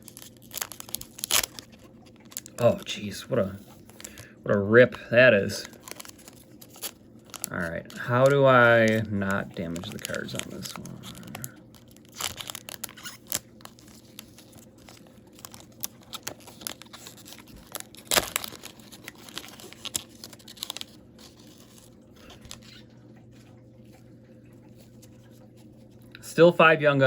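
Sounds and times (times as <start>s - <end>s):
plastic wrapper tearing and crinkling: 0.0s - 23.0s.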